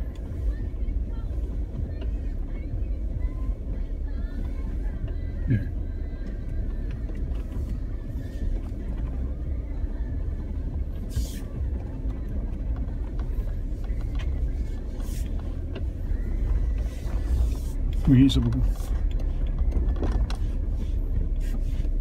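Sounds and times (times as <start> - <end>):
vehicle engine and tyres on dirt: 0.0 - 22.0.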